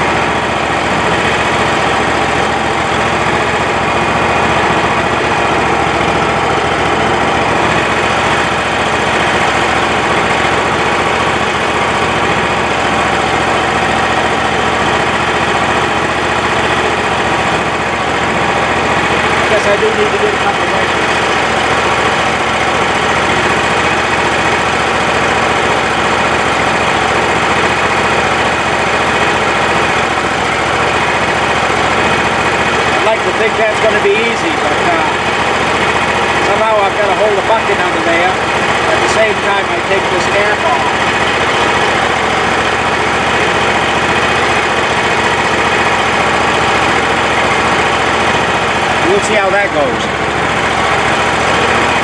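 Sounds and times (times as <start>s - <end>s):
sawmill engine running: 0.0s - 52.0s.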